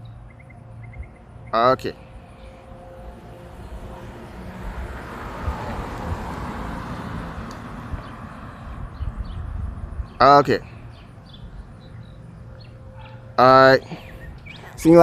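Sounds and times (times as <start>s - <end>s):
jet aircraft passing overhead: 0.0s - 15.0s.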